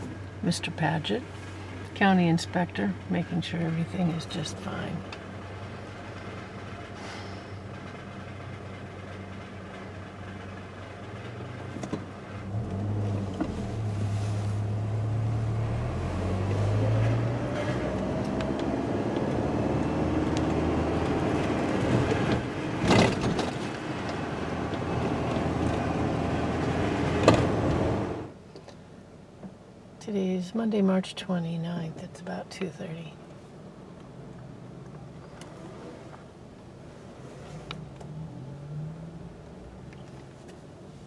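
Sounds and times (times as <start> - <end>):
car engine: 0.0 - 30.0, 32.9 - 41.0
road noise inside car: 0.0 - 41.0.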